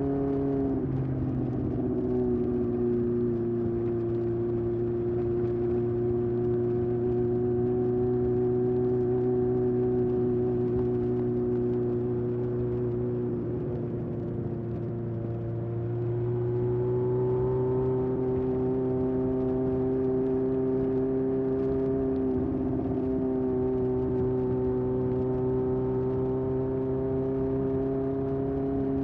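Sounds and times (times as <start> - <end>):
motorcycle exhaust while riding: 0.0 - 29.0.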